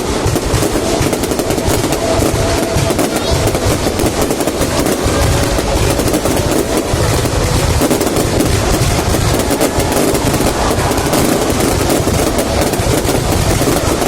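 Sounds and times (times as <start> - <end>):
fireworks bangs and crackle: 0.0 - 14.0.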